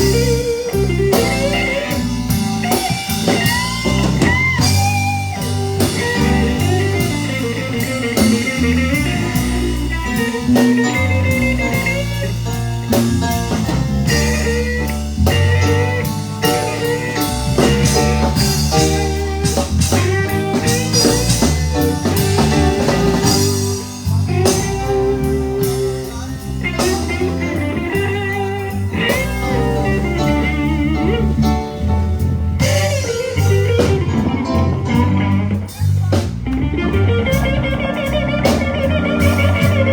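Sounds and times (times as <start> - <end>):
bass: 0.0 - 39.9
drum kit: 0.0 - 39.9
lead electric guitar: 0.0 - 39.9.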